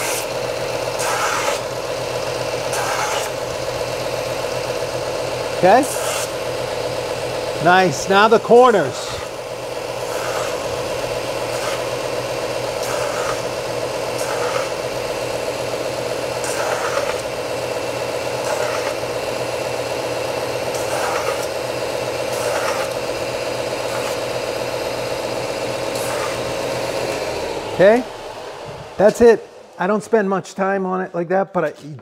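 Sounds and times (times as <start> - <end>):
wooden block grinding on sander: 0.0 - 29.9
belt sander running: 0.0 - 31.0.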